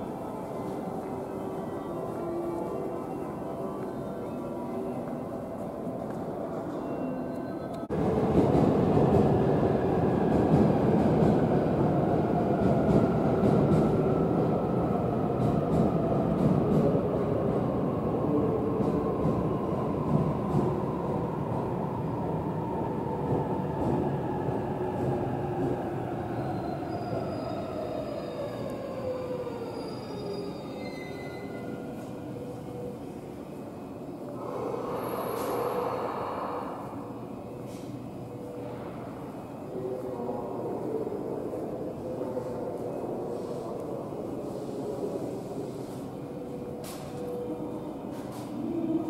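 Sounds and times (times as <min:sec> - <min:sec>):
electric train wheel and rail noise: 0:00.0 - 0:49.0.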